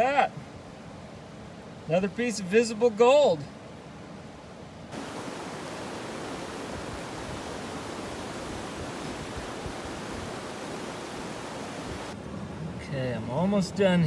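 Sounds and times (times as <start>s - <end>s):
rushing river water: 0.0s - 14.0s.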